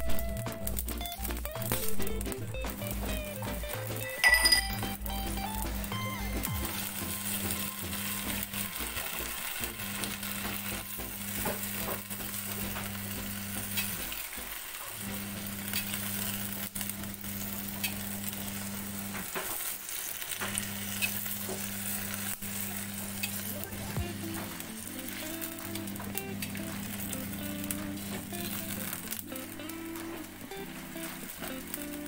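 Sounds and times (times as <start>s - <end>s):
leaves sizzling in hot oil: 0.0s - 32.0s.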